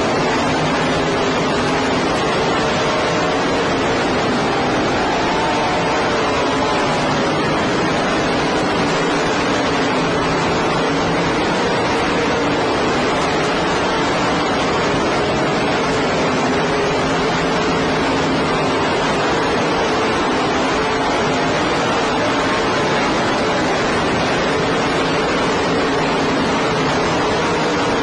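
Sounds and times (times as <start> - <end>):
racing car engines: 0.0 - 28.0.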